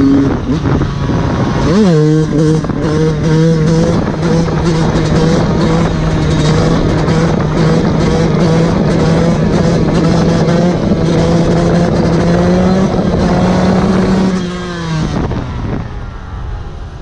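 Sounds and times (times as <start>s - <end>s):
two-stroke engine at high revs: 0.0s - 15.8s.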